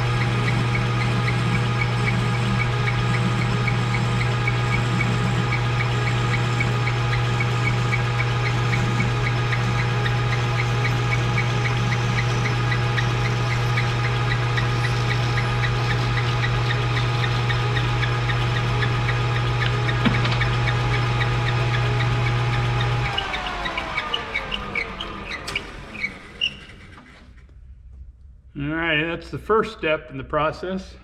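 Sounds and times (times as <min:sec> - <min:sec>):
lathe motor hum: 0:00.0 - 0:27.3.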